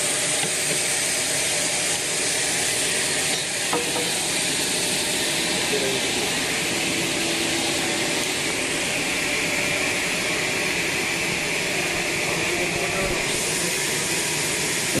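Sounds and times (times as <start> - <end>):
band sawmill running: 0.0 - 15.0.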